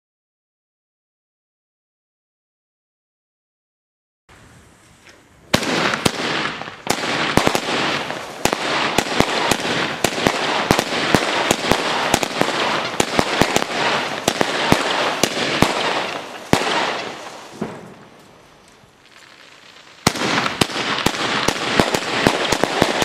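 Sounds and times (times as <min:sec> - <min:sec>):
firework crackling: 0:04.3 - 0:23.0
firework bangs: 0:04.4 - 0:23.0.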